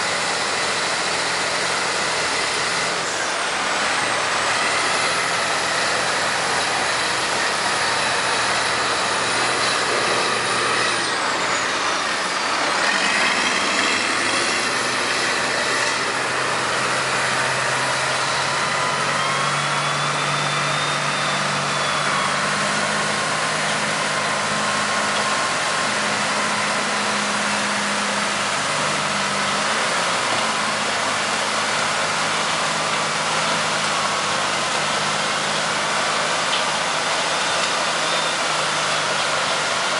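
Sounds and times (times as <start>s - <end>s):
wheel loader diesel engine: 0.0s - 39.9s.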